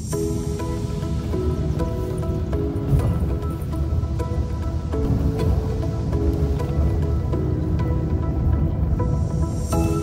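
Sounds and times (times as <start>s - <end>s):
music with soft sustained chords: 0.0s - 10.0s.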